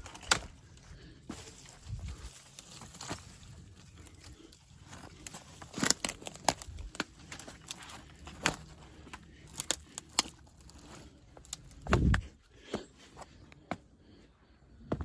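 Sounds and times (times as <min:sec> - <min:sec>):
footsteps through dry leaves: 0:00.0 - 0:12.4
twigs cracking: 0:00.0 - 0:13.7.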